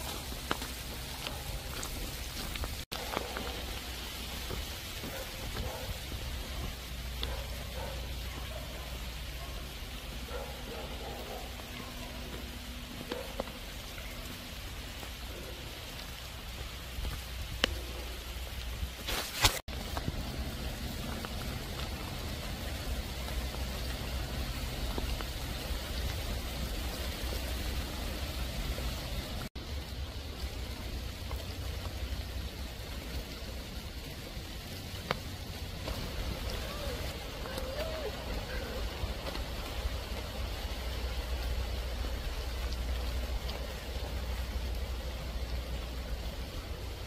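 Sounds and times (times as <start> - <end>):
heavy rain on leaves: 0.0 - 47.0.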